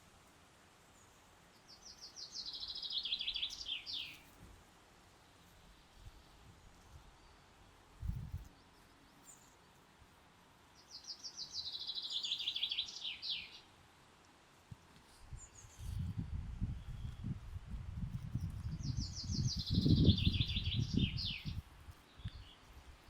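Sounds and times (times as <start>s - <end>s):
songbird singing: 0.9s - 4.4s, 5.2s - 13.8s, 14.6s - 23.0s.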